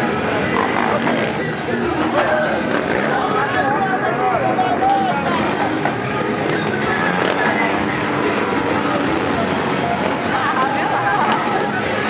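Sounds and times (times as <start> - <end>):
motorcycle engines running: 0.0 - 3.7, 4.9 - 12.0
crowd of voices: 0.0 - 12.0.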